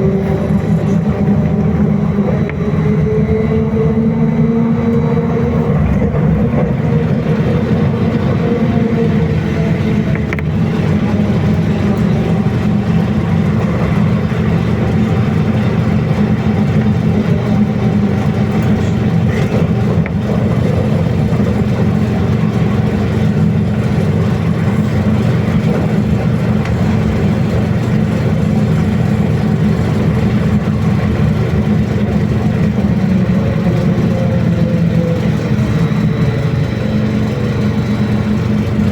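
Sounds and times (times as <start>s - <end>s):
electric traction drive hum: 0.0s - 38.9s
rumble of tyres and running gear: 0.0s - 38.9s.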